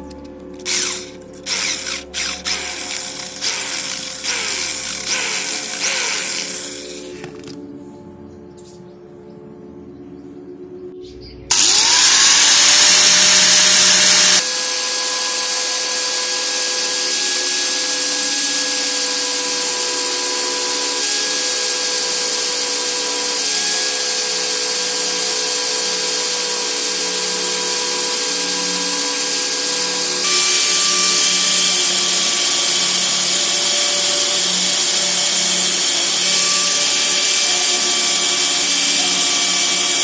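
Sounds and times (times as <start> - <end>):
angle grinder grinding steel: 0.0 - 7.6, 11.5 - 40.0.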